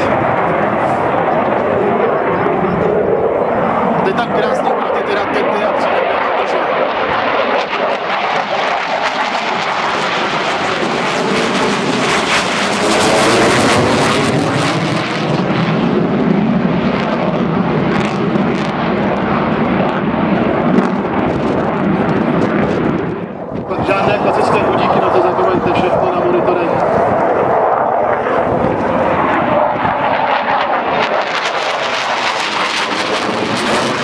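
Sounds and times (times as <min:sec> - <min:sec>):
fighter jet with afterburner: 0:00.0 - 0:34.0.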